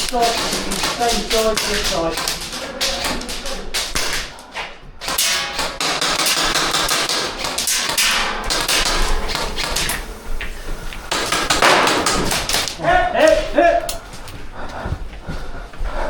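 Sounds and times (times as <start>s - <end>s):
airsoft guns firing: 0.0s - 4.4s, 5.0s - 14.0s
pellets hitting hard surfaces: 0.0s - 4.4s, 5.0s - 13.6s.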